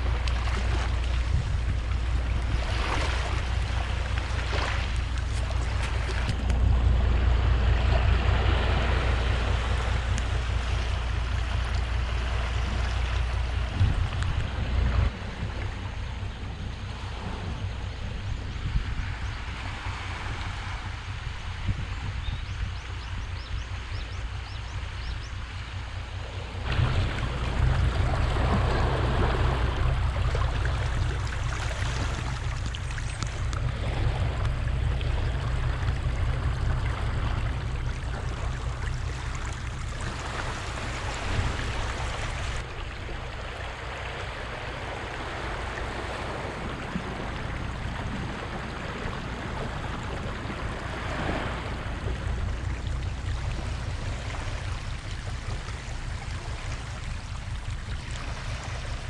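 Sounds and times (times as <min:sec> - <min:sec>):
small waves washing on shore: 0:00.0 - 0:59.0
wind rumbling on microphone: 0:00.0 - 0:59.0.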